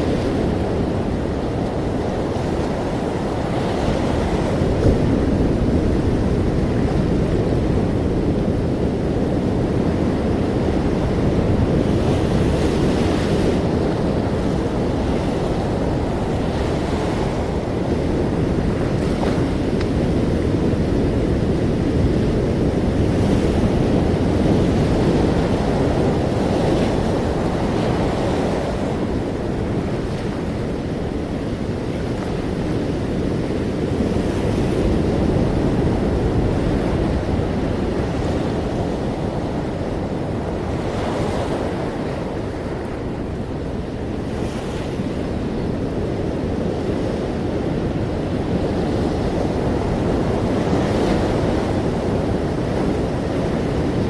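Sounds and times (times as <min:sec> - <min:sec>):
ocean waves washing in: 0:00.0 - 0:54.0.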